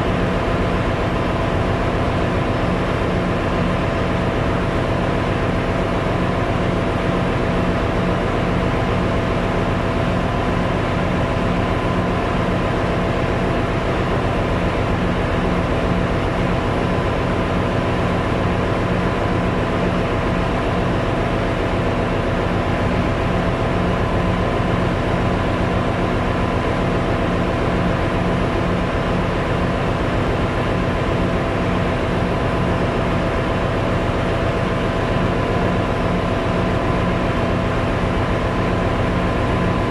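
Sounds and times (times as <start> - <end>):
engine room machinery hum: 0.0 - 39.9.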